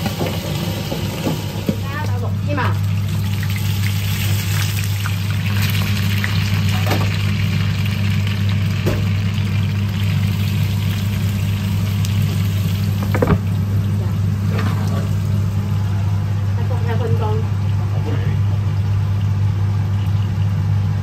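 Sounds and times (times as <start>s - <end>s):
buns sizzling in oil: 0.0s - 20.8s
constant low hum: 0.0s - 21.0s.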